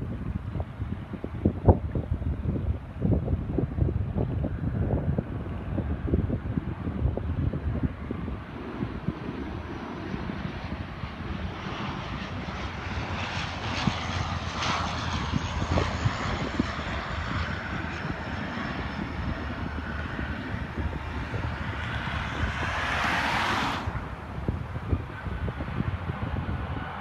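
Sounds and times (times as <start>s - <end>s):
airliner engines running: 0.0s - 27.0s
wind rumbling on microphone: 0.0s - 27.0s.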